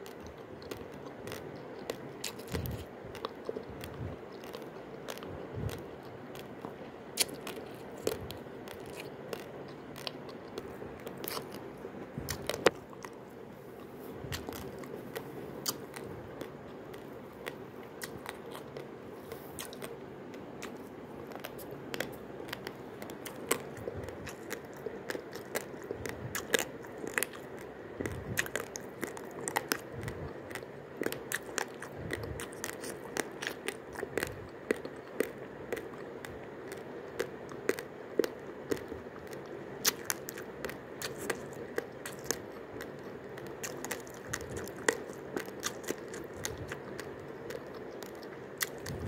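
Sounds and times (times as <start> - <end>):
raw rice being chewed: 0.0 - 49.0.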